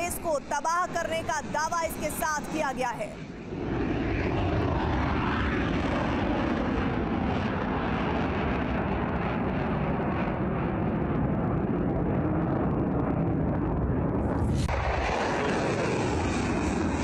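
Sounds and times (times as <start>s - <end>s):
rocket motor rumble: 3.3s - 17.0s.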